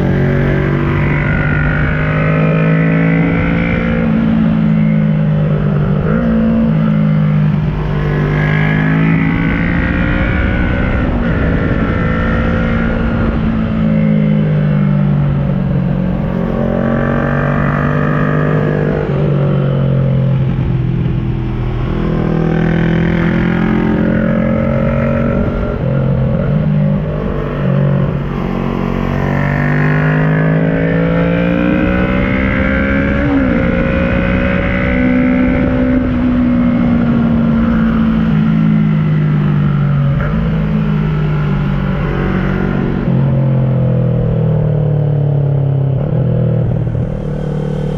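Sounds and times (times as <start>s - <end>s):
motorcycle engine accelerating: 0.0s - 47.9s
wind and road rumble: 0.0s - 47.9s.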